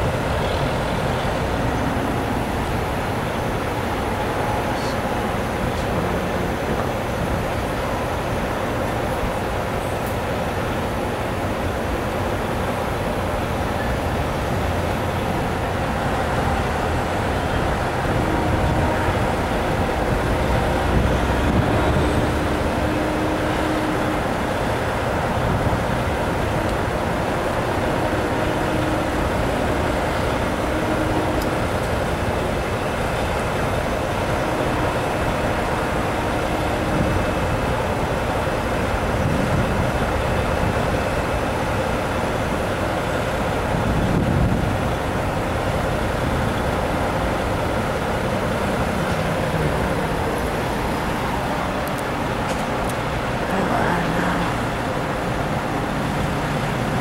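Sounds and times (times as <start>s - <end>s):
freight train rumble: 0.0s - 57.0s
highway traffic: 0.0s - 57.0s.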